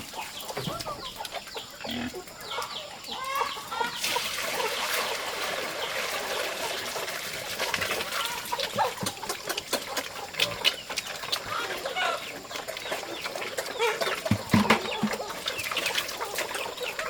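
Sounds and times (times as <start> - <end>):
chickens clucking and cheeping: 0.0 - 17.0.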